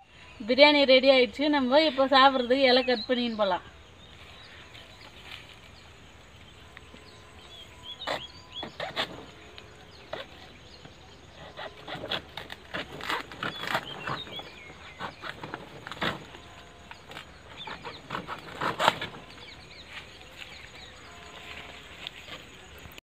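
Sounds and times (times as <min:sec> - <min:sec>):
bird chirping: 0:01.6 - 0:22.9
leaves rustling and crackling: 0:02.8 - 0:23.0.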